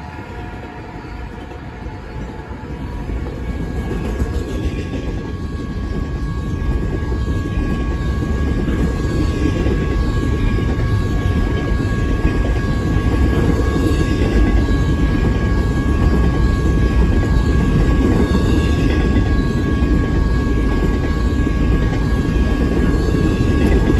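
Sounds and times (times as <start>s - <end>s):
steel wheels rumbling on rail: 0.0s - 23.9s.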